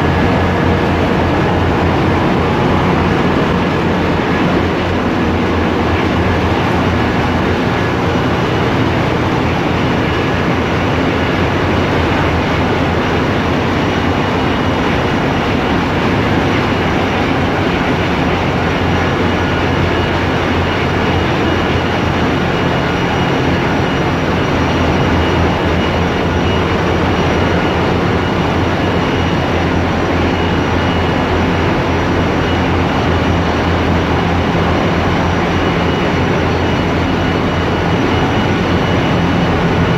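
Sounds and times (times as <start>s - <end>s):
engine room machinery drone: 0.0s - 39.9s
faint machinery whines: 0.0s - 39.9s.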